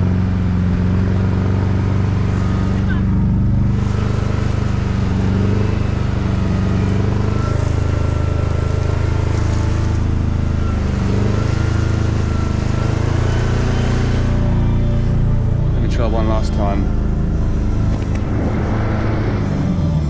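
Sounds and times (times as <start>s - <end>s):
engine working hard: 0.0s - 20.0s.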